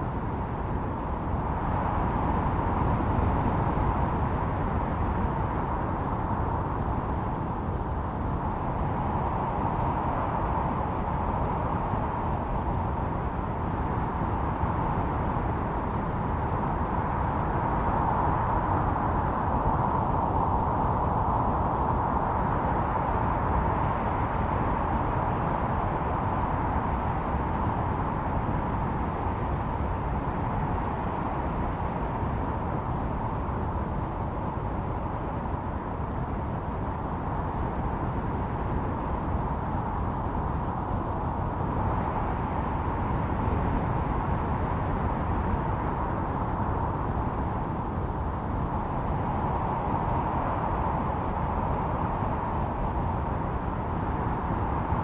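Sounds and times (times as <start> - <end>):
blizzard wind howling: 0.0 - 55.0
deep wind rumble: 0.0 - 55.0.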